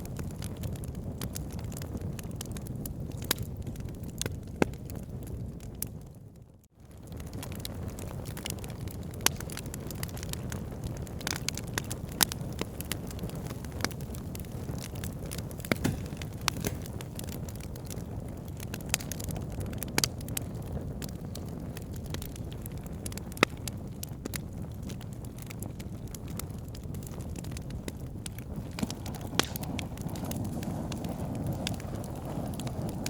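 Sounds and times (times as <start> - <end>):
fire flames rushing: 0.0 - 6.1, 6.8 - 33.0
fire crackling and popping: 0.0 - 33.0.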